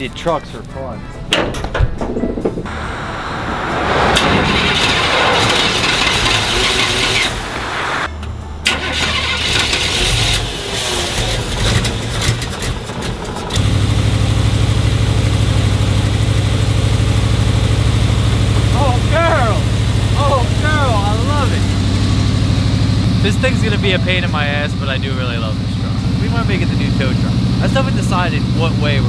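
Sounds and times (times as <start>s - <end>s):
engine running: 2.5s - 29.0s
engine cranked by starter: 4.2s - 7.8s, 8.6s - 29.0s.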